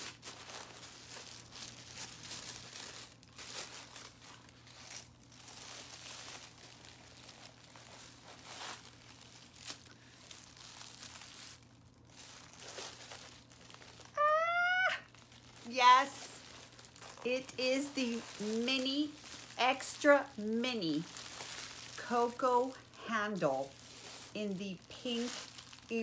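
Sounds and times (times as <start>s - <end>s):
tissue paper crinkling: 0.0s - 26.0s.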